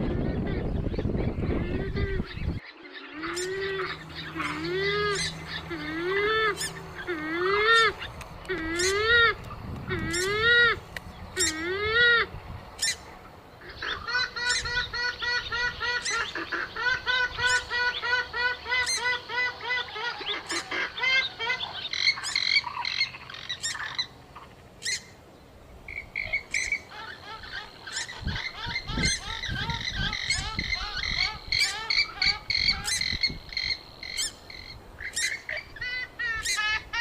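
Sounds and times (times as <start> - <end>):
swamphen squawking and honking: 0.2 - 25.2, 25.9 - 37.0.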